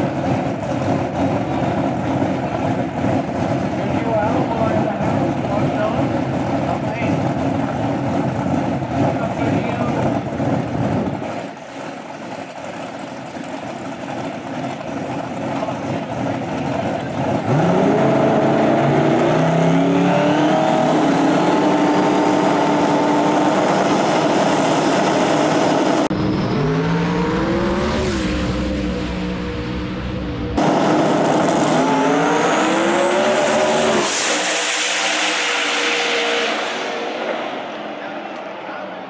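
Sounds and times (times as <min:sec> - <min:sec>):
drag racing engines revving: 0:00.0 - 0:39.0.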